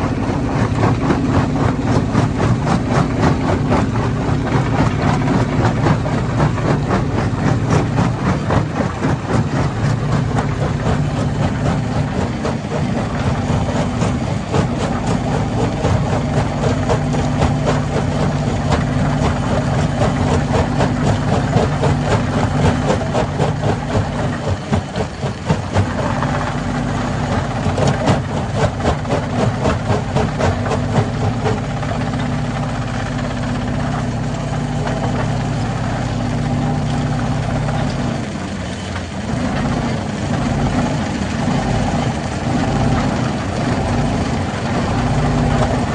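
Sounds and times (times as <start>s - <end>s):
stone crusher machine drone: 0.0s - 45.9s.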